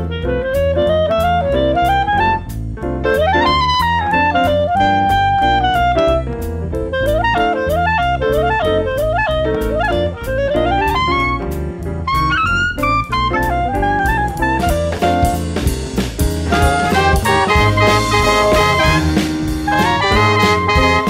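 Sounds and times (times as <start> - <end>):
clarinet melody: 0.0 - 21.0
drums: 0.0 - 21.0
trombone: 0.0 - 21.0
trumpet: 0.0 - 21.0.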